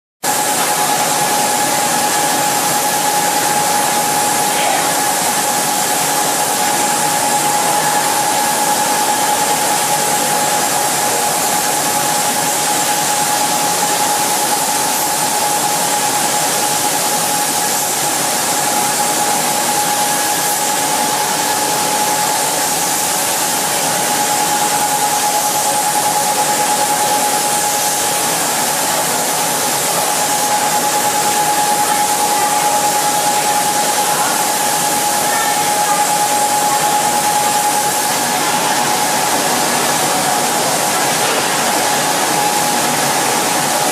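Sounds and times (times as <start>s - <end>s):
machinery whine: 0.3s - 43.9s.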